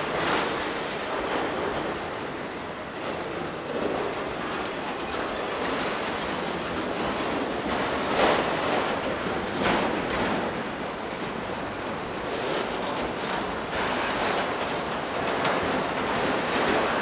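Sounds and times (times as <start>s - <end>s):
rail clicks: 0.0s - 17.0s
steel wheels rumbling on rail: 0.0s - 17.0s.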